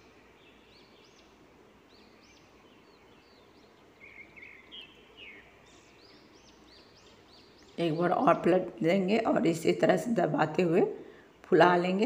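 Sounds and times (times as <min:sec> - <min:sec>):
faint bird chirping: 0:00.0 - 0:12.0
low background hiss: 0:00.0 - 0:12.0.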